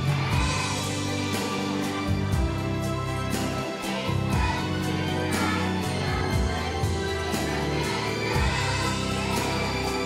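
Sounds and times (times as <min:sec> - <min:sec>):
children's choir singing: 0:00.0 - 0:10.0
instrumental accompaniment: 0:00.0 - 0:10.0.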